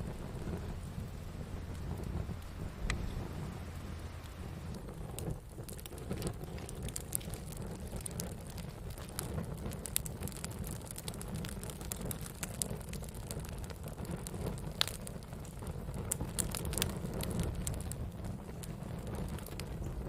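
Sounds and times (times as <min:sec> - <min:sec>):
campfire crackling and popping: 0:00.0 - 0:20.0
low rumble of burning: 0:00.0 - 0:20.0.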